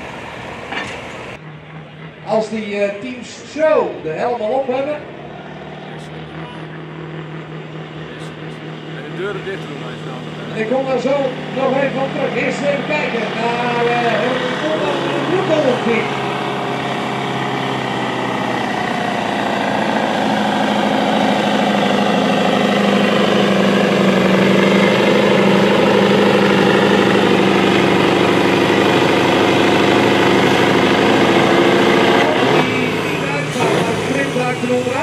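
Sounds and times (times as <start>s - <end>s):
truck diesel engine under load: 0.0s - 35.0s.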